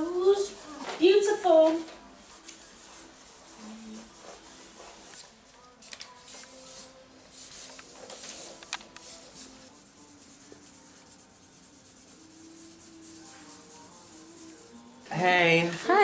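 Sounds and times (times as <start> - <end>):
soft background music: 0.0 - 16.0
marker pens scratching on paper: 1.6 - 15.2.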